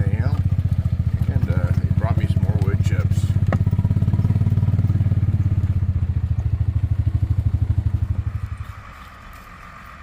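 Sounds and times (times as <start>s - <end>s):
truck engine pulsing rumble: 0.0s - 10.0s.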